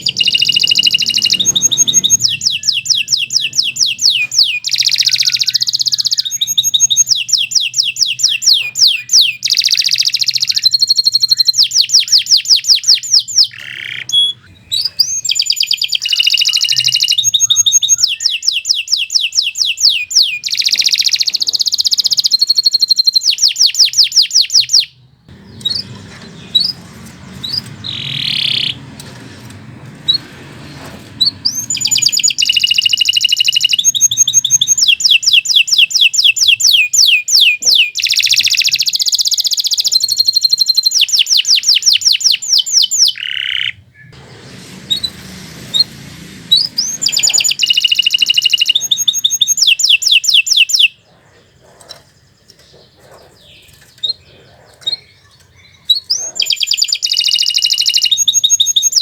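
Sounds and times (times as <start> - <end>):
canary singing rolling trills: 0.0 - 59.0.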